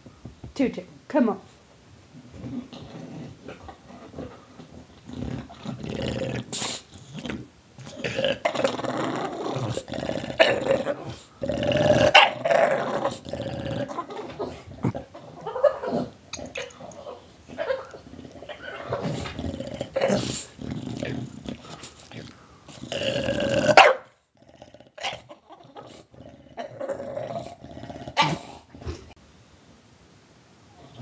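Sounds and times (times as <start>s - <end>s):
dog growling and snarling: 2.2s - 29.2s.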